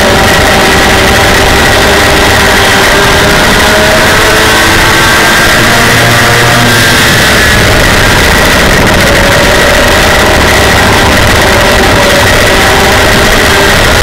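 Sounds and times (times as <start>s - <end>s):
race engine running hard: 0.0s - 14.0s.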